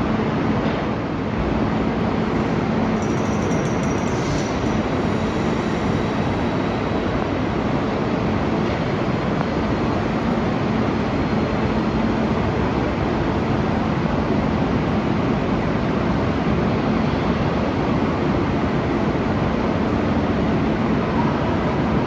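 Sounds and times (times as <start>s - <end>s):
train running rush: 0.0s - 22.0s.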